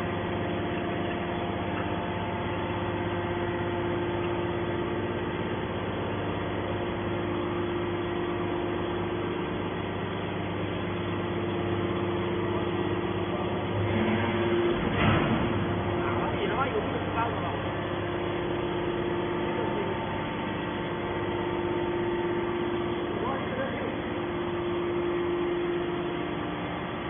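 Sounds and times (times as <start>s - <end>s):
baler machinery humming: 0.0s - 27.0s.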